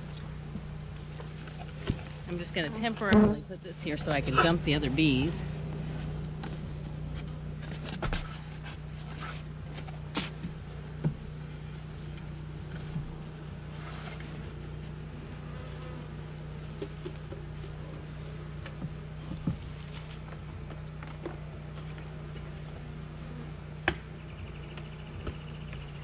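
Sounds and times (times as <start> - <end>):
honeybees buzzing: 0.0 - 6.3, 8.8 - 26.0.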